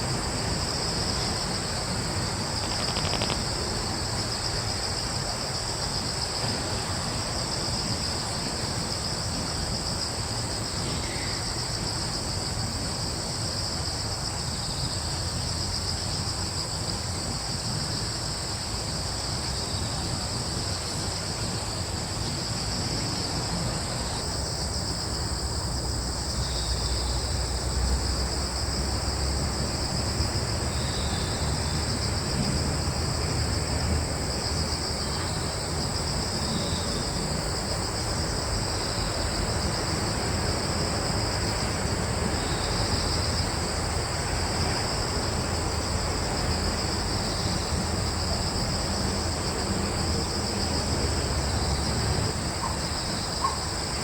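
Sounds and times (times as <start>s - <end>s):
crickets trilling: 0.0s - 54.0s
low rumble of breeze: 0.0s - 54.0s.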